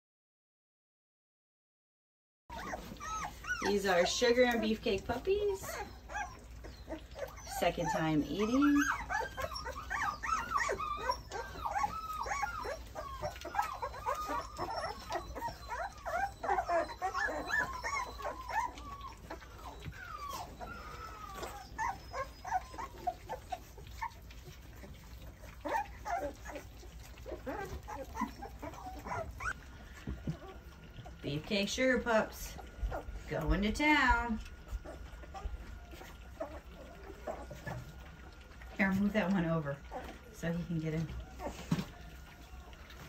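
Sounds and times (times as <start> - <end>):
puppies whimpering and yipping: 2.5 - 43.0.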